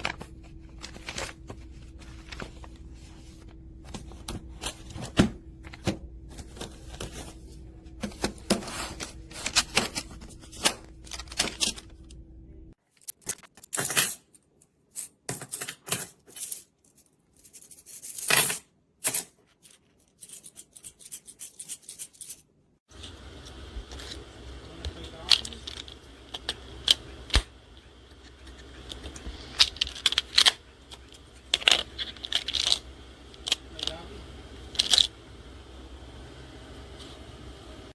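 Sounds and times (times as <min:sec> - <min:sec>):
low background hum: 0:00.0 - 0:13.1, 0:13.9 - 0:37.9.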